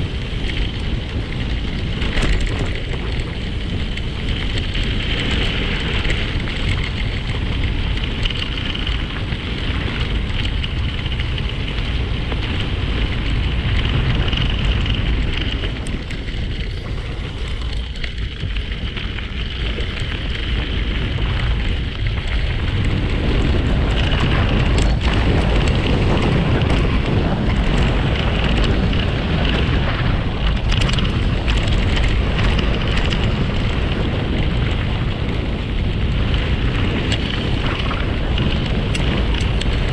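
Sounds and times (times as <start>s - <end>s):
tyres rolling over gravel: 0.0s - 39.9s
wind buffeting microphone: 0.0s - 39.9s.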